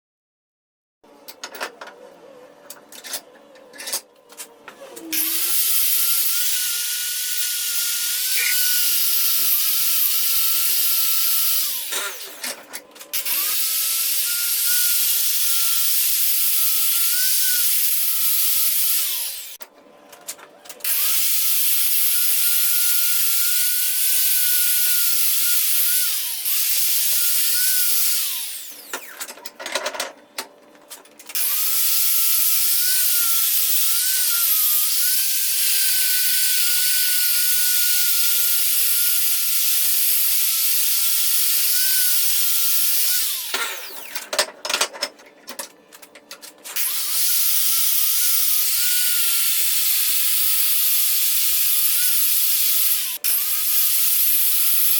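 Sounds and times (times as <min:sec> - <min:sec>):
angle grinder on steel rail: 0:04.9 - 0:19.6, 0:20.8 - 0:29.2, 0:31.3 - 0:44.3, 0:46.7 - 0:54.9.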